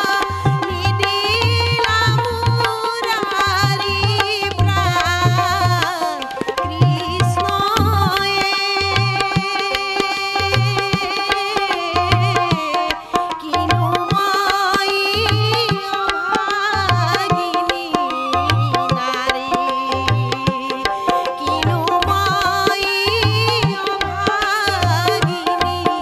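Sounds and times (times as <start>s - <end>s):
tabla beat: 0.0s - 26.0s
woman singing folk song: 0.0s - 26.0s.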